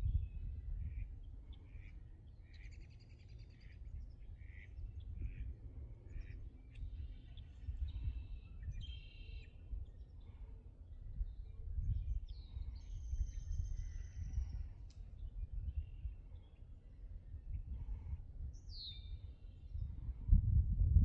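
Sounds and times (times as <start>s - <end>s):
constant low rumble: 0.0s - 21.0s
birds chirping and trilling: 0.9s - 20.0s.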